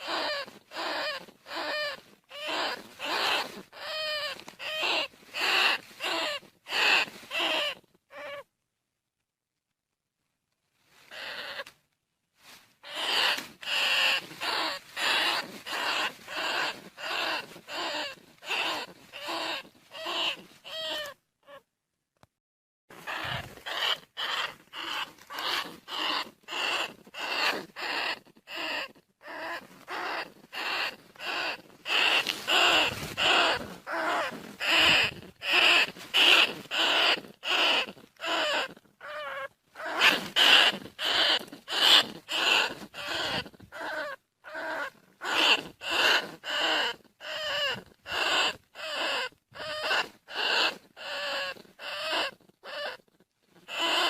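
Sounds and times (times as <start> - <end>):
rat squeaking: 0.0 - 8.4, 11.1 - 11.8, 12.8 - 21.6, 22.9 - 54.0.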